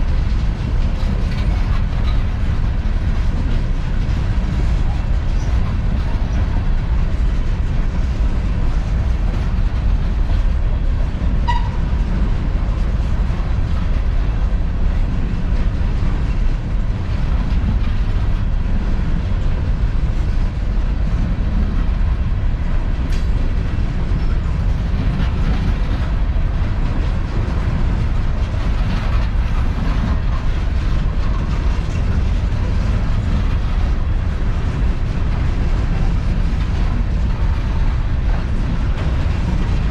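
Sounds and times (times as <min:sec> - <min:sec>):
train cars rolling on rails: 0:00.0 - 0:39.9.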